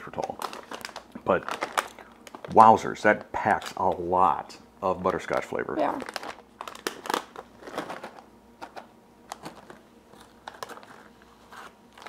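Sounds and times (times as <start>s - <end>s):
plastic pouches crinkling: 0.0s - 12.0s.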